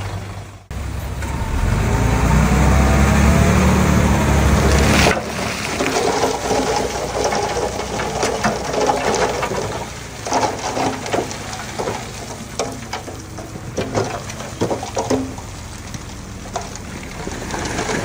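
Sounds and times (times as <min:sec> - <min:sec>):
bulldozer diesel engine idling: 0:00.0 - 0:18.0.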